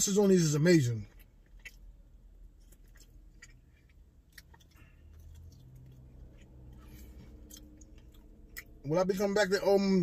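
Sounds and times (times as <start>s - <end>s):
low steady hum: 0.0s - 10.0s
chewing with wet mouth clicks: 0.8s - 9.4s.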